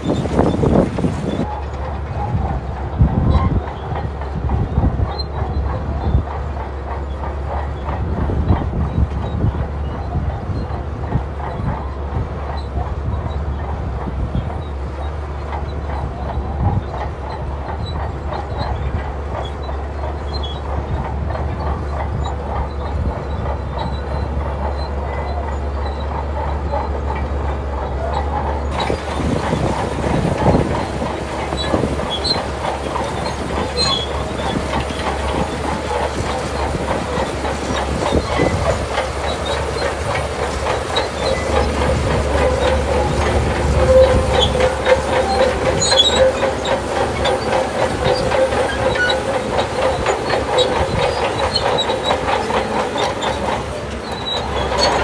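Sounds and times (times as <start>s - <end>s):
bulldozer diesel engine running: 0.0s - 55.0s
steel tracks clanking: 0.0s - 55.0s.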